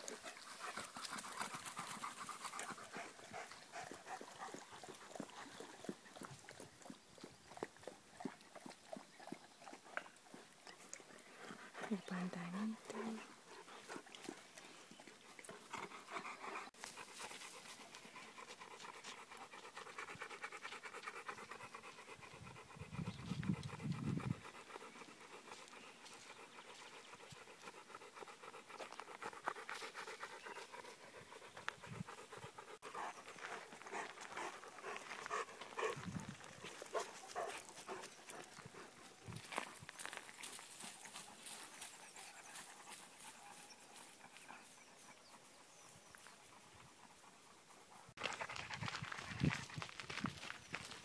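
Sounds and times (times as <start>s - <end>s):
large dogs panting: 0.0s - 50.1s.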